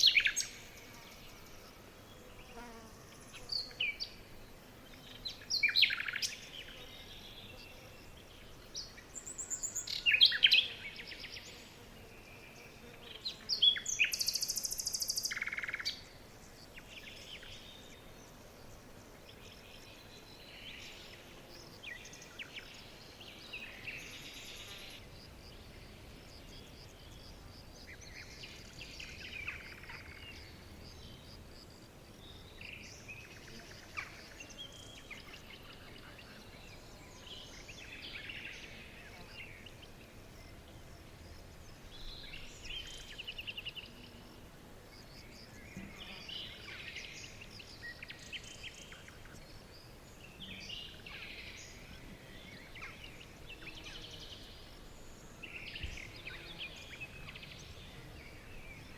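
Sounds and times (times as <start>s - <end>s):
low background hiss: 0.0s - 58.9s
songbirds chirping and trilling: 0.0s - 58.9s.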